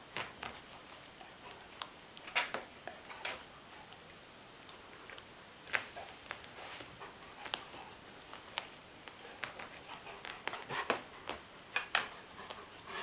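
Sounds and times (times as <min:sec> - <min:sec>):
scuffles and clicks of animals playing: 0:00.0 - 0:13.0.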